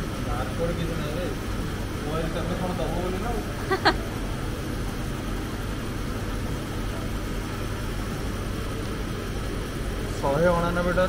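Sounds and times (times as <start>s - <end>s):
restaurant dining room hum: 0.0s - 11.0s.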